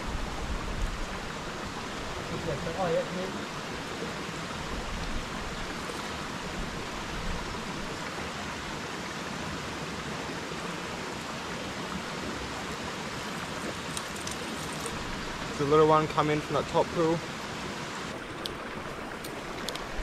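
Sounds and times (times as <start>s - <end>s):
creek water over rocks: 0.0s - 20.0s.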